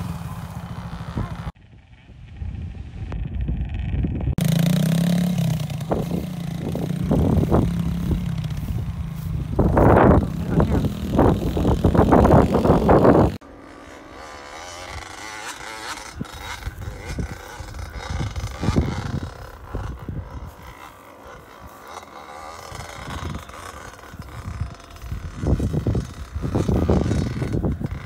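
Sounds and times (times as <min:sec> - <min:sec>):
dirt bike engine: 0:00.0 - 0:28.0.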